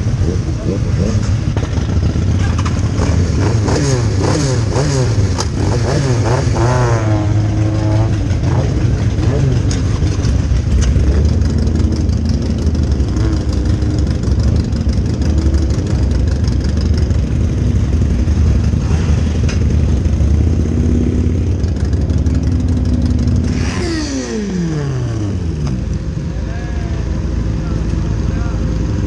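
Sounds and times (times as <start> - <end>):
motorcycle engines running: 0.0 - 29.0
motorcycle revving down: 0.0 - 29.0.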